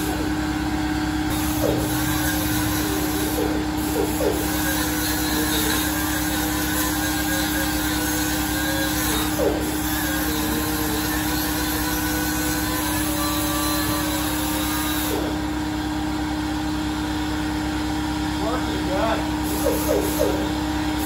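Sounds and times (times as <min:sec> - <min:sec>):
air compressor running: 0:00.0 - 0:21.0.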